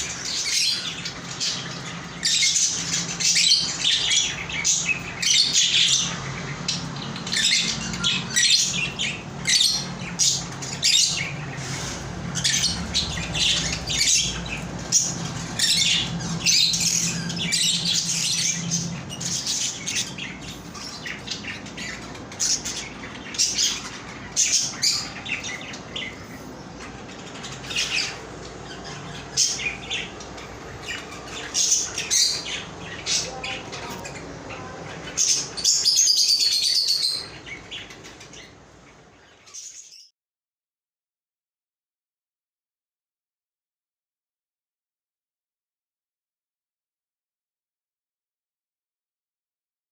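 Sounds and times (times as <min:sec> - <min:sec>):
parrots chirping and squawking: 0:00.0 - 0:40.1.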